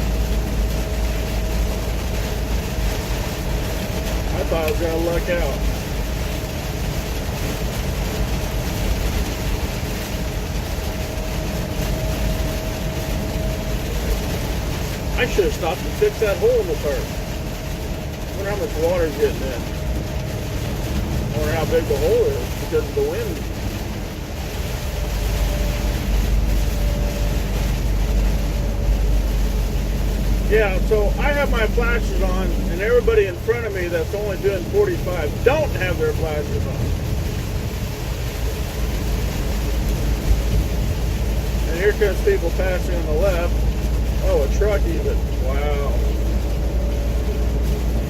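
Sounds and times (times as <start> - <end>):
rain and road spray: 0.0 - 48.0
truck engine and tyre drone: 0.0 - 48.0.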